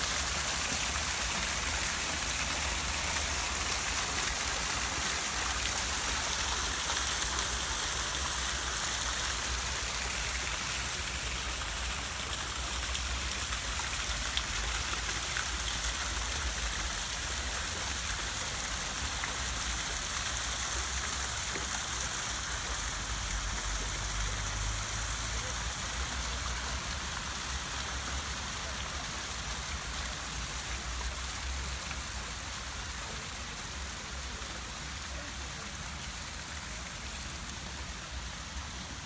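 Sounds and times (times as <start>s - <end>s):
water splashing into pond: 0.0s - 39.0s.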